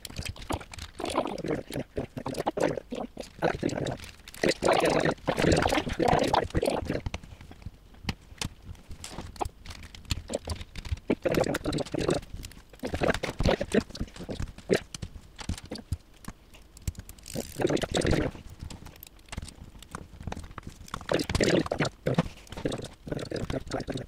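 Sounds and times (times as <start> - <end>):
plastic pieces clicking: 0.0 - 7.2, 8.4 - 24.0.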